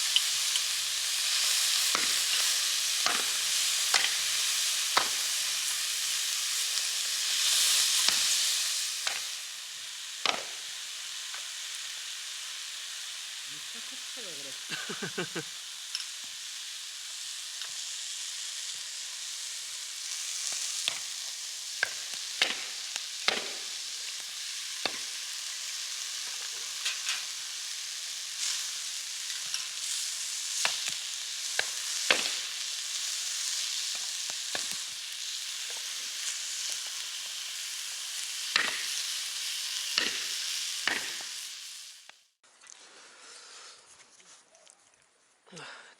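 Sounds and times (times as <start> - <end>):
steak sizzling with pops: 0.0 - 42.9.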